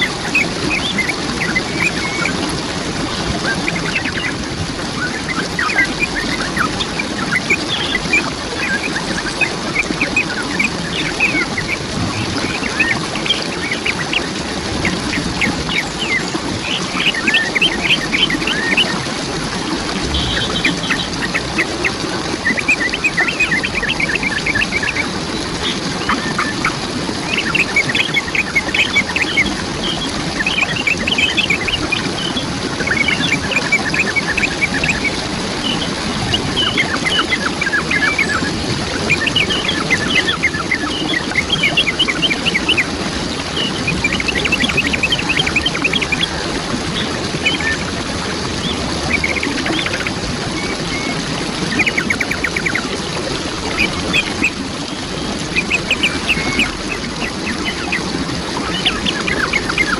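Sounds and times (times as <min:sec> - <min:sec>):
birds calling: 0:00.0 - 0:02.5, 0:03.2 - 0:53.0, 0:53.6 - 0:59.9
waterfall rushing: 0:00.0 - 0:59.9.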